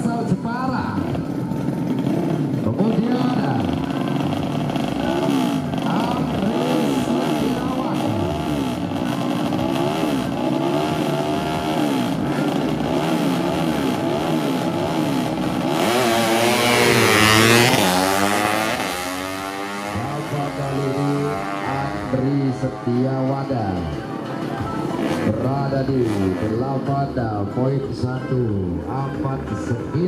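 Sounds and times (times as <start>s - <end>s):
motorcycles launching and passing: 0.0s - 28.2s
motorcycles revving: 0.0s - 30.0s.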